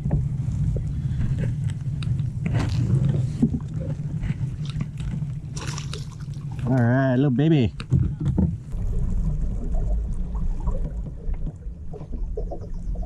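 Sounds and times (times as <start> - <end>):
kayak rumbling on water: 0.0 - 13.0.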